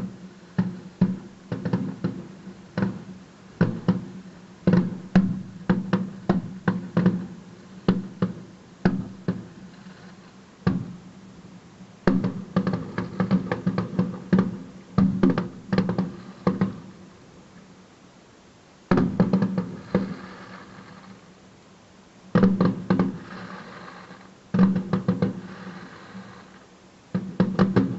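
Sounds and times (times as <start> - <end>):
fireworks bangs and cracks: 0.0 - 11.0, 12.0 - 17.0, 18.9 - 21.3, 22.3 - 27.9.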